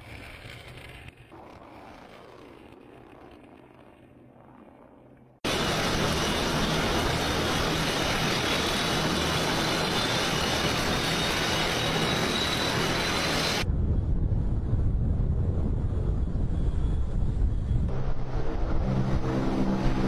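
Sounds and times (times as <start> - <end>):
turboprop engines running: 0.0 - 20.0.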